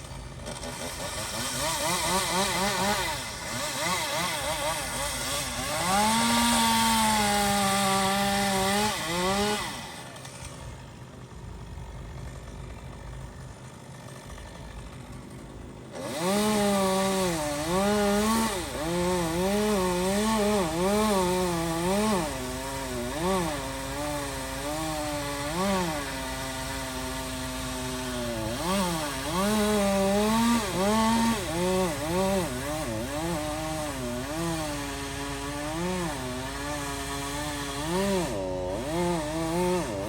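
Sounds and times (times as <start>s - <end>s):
chainsaw engine revving: 0.0s - 40.0s.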